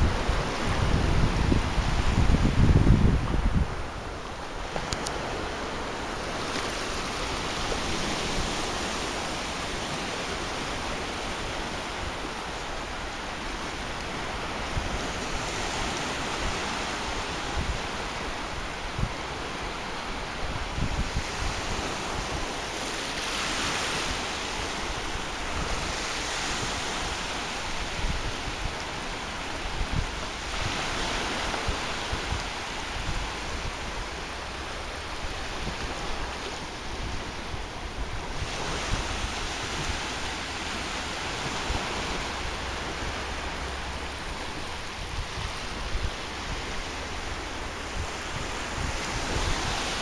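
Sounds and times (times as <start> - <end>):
waves breaking on sand: 0.0 - 50.0.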